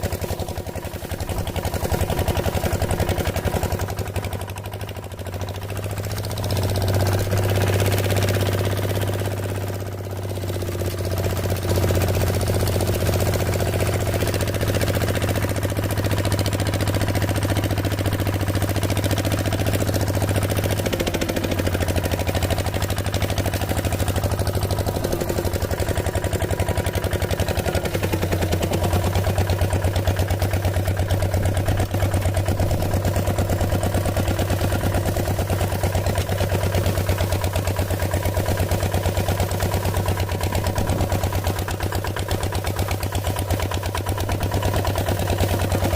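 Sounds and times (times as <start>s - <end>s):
small engine chugging: 0.0s - 45.9s.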